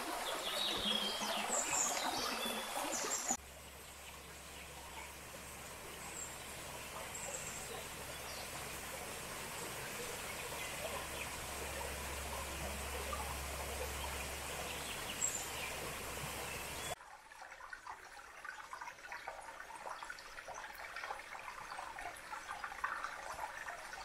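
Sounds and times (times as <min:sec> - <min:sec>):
stream flowing gently: 0:00.0 - 0:24.0.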